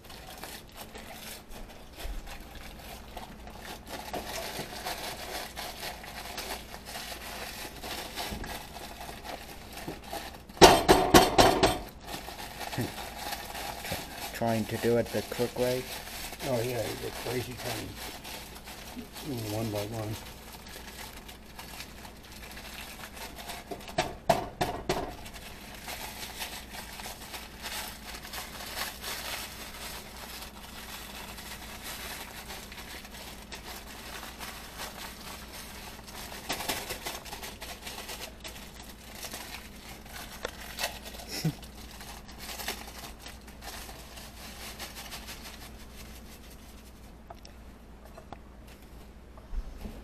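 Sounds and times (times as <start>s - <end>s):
wrapping crinkling: 0.0s - 49.1s.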